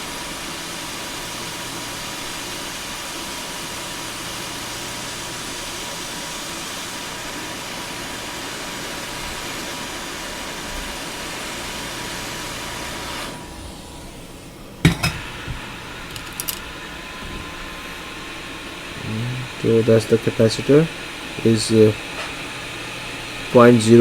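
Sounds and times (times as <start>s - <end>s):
hot air station blowing: 0.0s - 24.0s.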